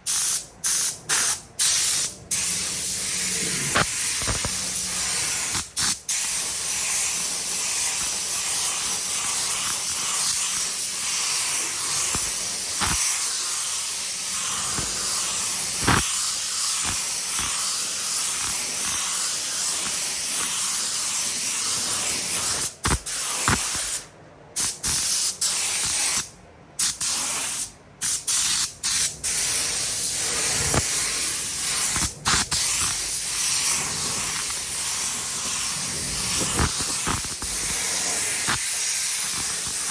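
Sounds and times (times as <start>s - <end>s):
paint spray gun hissing: 0.0s - 24.0s, 26.9s - 39.9s.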